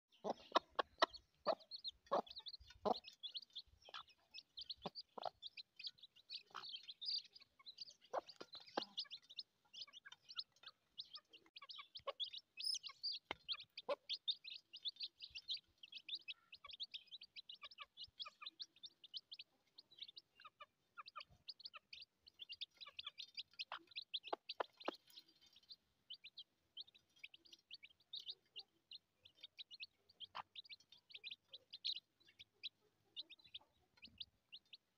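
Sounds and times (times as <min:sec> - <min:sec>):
chicks peeping: 0:00.1 - 0:34.9.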